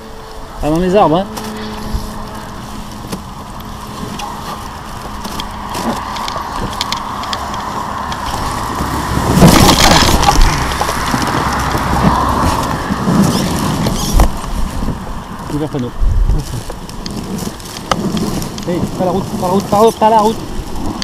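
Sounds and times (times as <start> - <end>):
basket dragging through wheat: 0.0 - 21.0.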